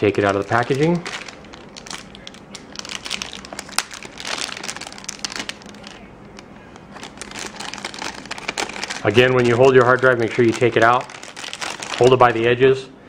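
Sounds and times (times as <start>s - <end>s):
anti-static bag crinkling: 0.0s - 12.5s.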